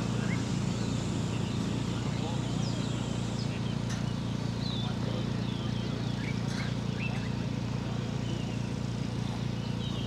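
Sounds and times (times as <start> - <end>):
birds chirping: 0.0 - 10.0
engine idling: 0.0 - 10.0.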